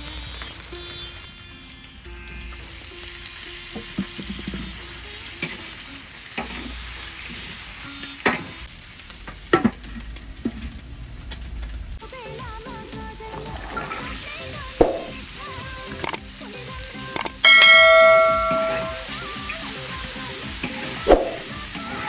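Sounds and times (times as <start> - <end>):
curry sizzling in a pot: 0.0 - 22.0.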